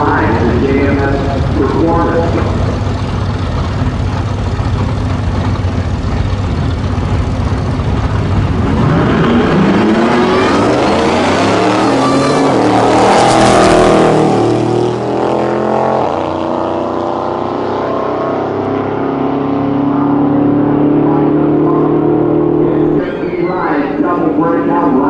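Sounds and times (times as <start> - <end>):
pickup trucks accelerating at full throttle: 0.0 - 25.0.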